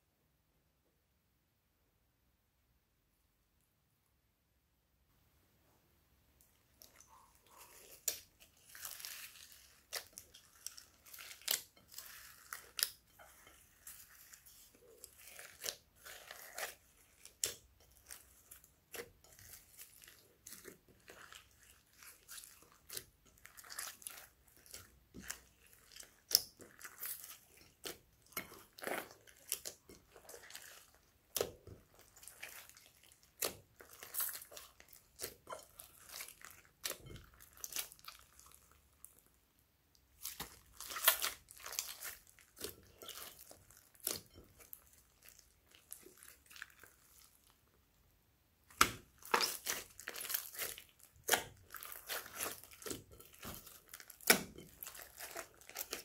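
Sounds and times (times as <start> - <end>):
slime squishing and crackling: 6.7 - 47.7, 48.6 - 56.0.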